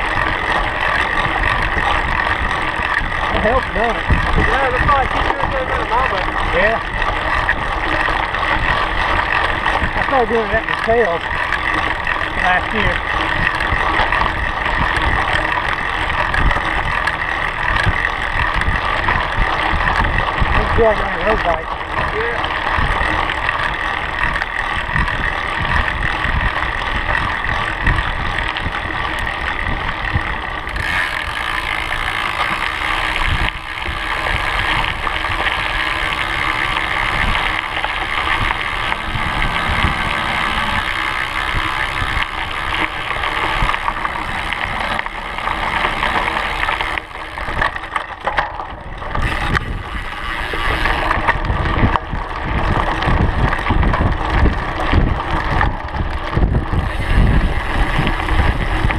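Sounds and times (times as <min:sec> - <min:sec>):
bike knocks and rattles: 0:00.0 - 0:58.9
bike tire rolling on gravel: 0:00.0 - 0:58.9
wind rumble on microphone: 0:00.0 - 0:58.9.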